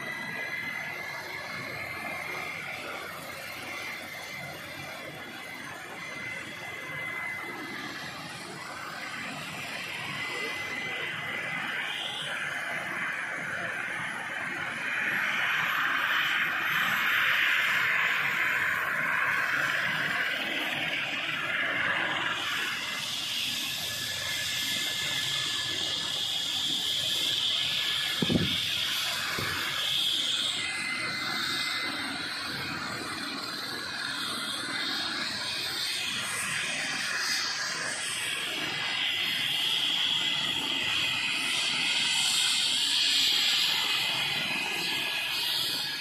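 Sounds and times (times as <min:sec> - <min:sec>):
helicopter rotor rushing: 0:00.0 - 0:46.0
helicopter turbine whine: 0:00.0 - 0:46.0.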